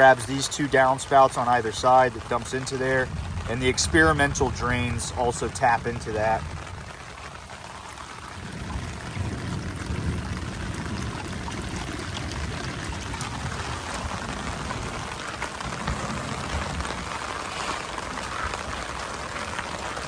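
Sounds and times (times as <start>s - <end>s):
rainwater trickling through drain: 0.0s - 20.0s
steady rain: 0.0s - 20.0s.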